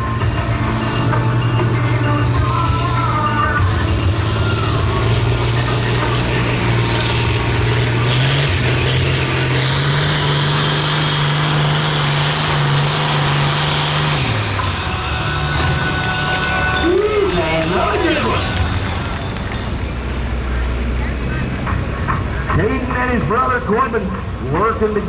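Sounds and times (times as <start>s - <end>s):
high whine: 0.0s - 10.6s, 11.3s - 21.4s
tractor diesel engine under load: 0.0s - 25.0s.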